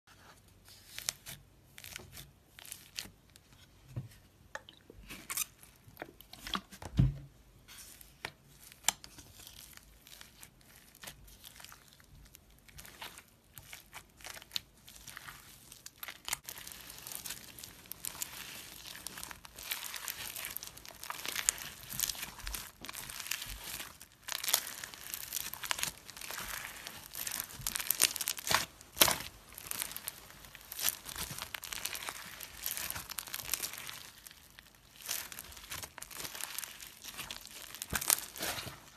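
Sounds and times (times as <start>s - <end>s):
slime with foam beads crackling: 0.2s - 3.5s, 7.7s - 38.9s.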